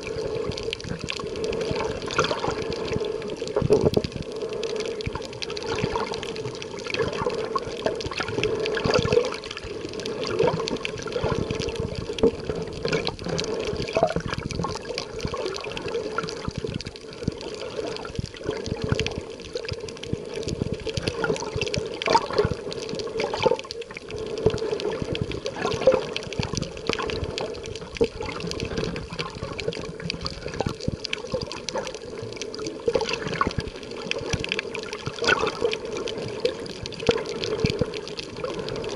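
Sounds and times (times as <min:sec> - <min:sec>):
muffled underwater water wash: 0:00.0 - 0:38.9
small clicks and crackles: 0:00.0 - 0:38.9.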